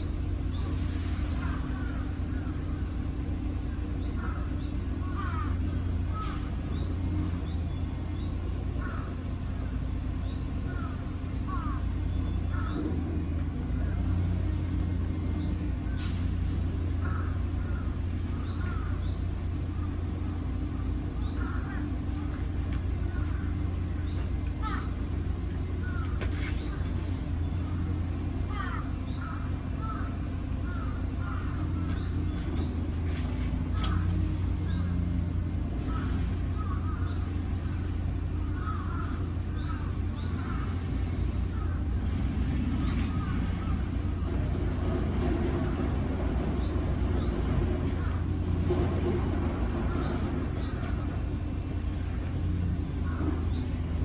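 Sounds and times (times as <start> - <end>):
bird calls: 0.0 - 54.0
low mechanical rumble: 0.0 - 54.0.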